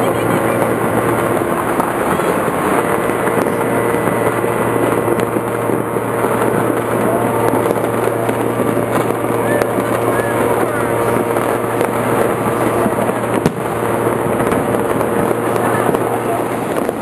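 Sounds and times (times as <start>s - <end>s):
fireworks and firecrackers exploding: 0.0s - 17.0s
steady low hum: 0.0s - 17.0s.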